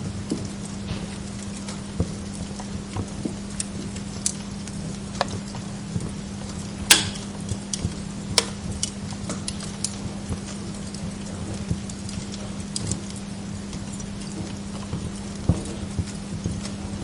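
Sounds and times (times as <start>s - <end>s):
steady low hum: 0.0s - 17.0s
wood fire crackling and popping: 0.0s - 17.0s.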